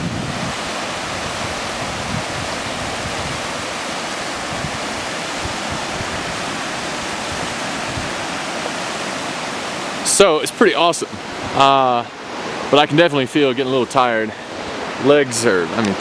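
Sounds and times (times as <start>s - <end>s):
stream cascading over rocks: 0.0s - 16.0s.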